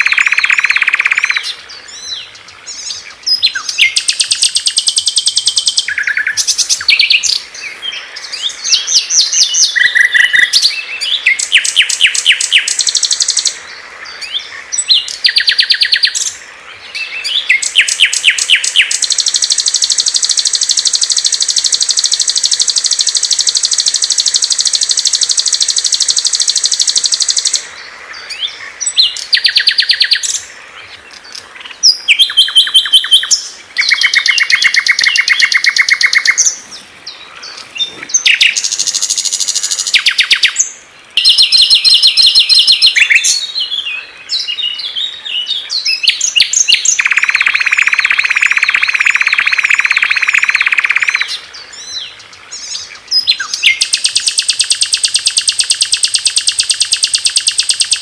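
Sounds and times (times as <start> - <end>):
songbirds trilling and chirping: 0.0 - 58.0.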